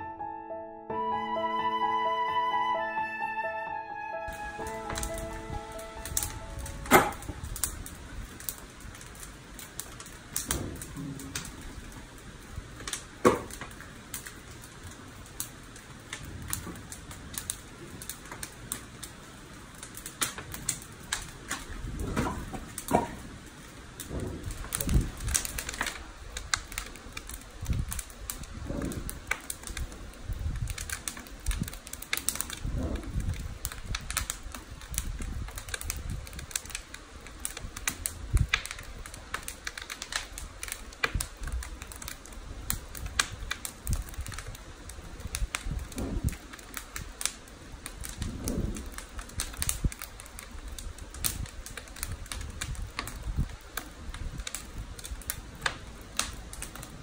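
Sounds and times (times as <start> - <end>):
low fire rush: 0.9 - 57.0
wood fire crackling and popping: 4.3 - 57.0.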